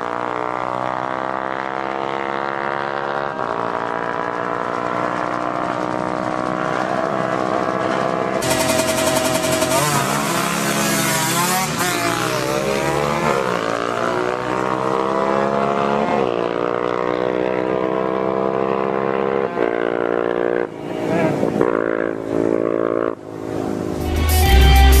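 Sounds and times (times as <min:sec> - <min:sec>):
motorcycle engines revving high: 0:00.0 - 0:25.0.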